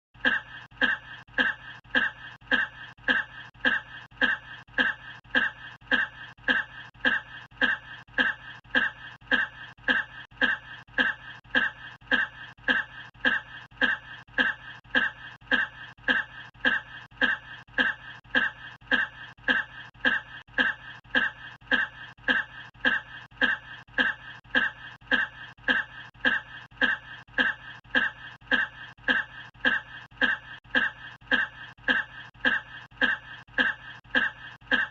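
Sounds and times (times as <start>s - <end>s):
looped person coughing: 0.1s - 34.9s.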